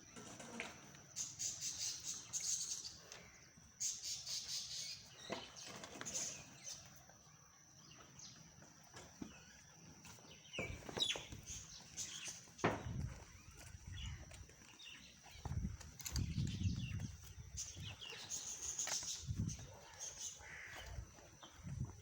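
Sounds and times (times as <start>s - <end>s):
small birds chirping: 1.0s - 22.0s.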